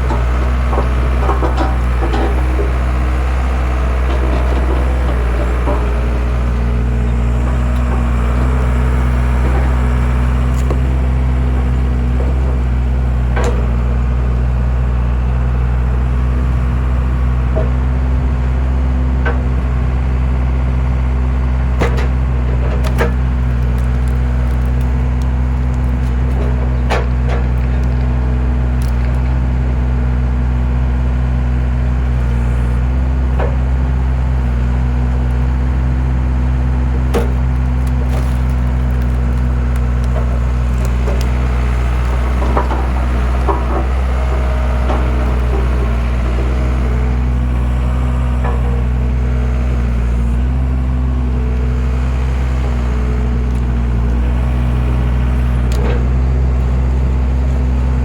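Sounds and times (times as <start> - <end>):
engine running: 0.0 - 58.0
wood cracking as it splits: 0.1 - 14.0, 21.1 - 30.0, 32.2 - 58.0.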